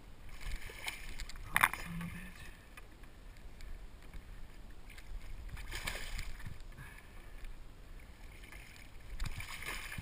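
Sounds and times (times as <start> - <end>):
water splashing against kayak hull: 0.0 - 10.0.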